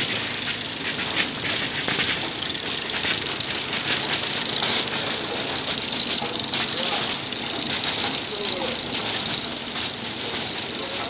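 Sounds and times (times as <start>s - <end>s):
conveyor machine running: 0.0s - 11.0s
dates rattling on metal conveyor: 0.0s - 11.0s.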